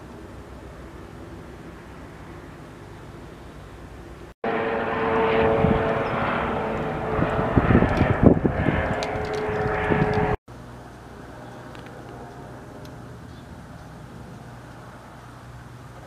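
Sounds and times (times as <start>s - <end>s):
helicopter rotor and engine drone: 0.0s - 16.0s.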